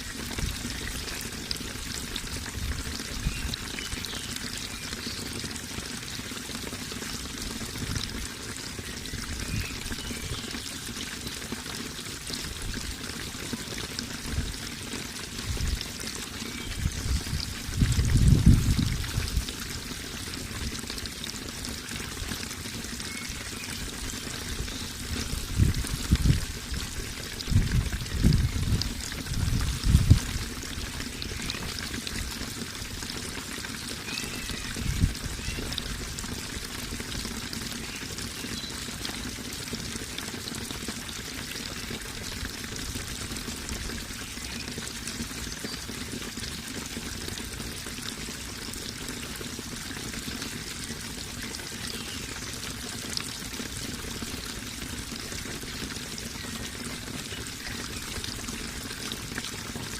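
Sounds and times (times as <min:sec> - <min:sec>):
running water pouring: 0:00.0 - 0:59.9.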